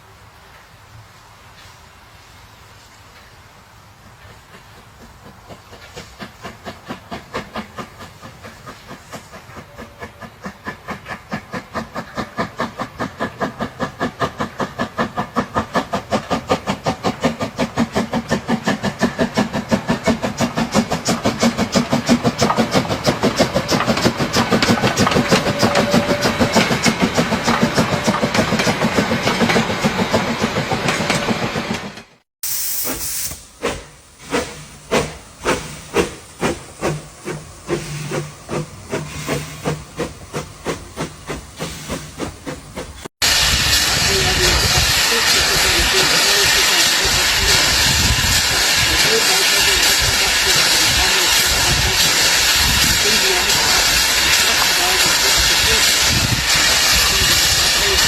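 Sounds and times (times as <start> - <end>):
steam locomotive chugging: 1.6 - 58.0.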